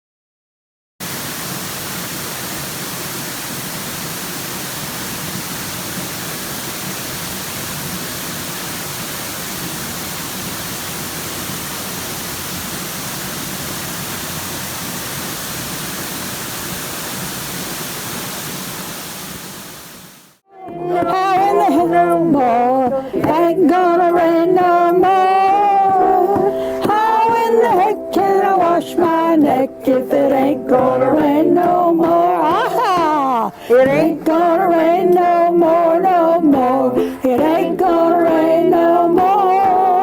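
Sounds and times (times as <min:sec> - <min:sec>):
steady hiss of noise: 0:01.0 - 0:40.0.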